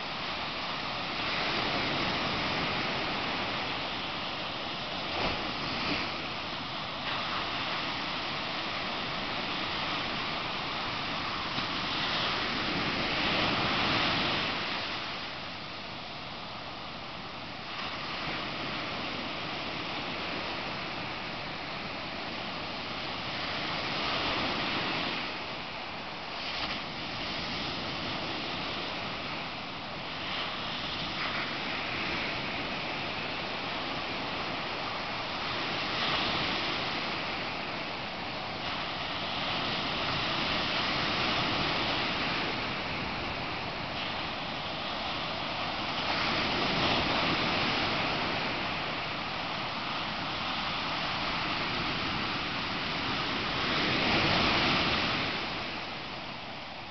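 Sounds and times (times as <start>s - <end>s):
waves breaking on beach: 0.0s - 56.9s.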